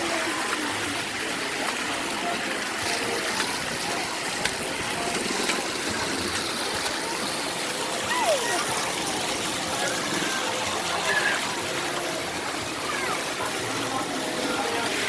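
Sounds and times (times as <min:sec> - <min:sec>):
water jets spraying: 0:00.0 - 0:15.0.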